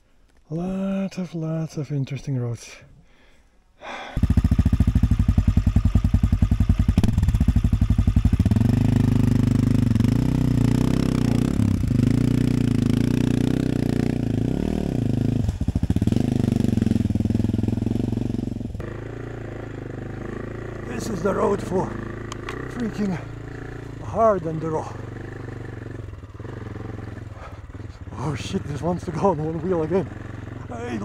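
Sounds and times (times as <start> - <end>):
motorcycle engine revving: 4.2 - 31.0.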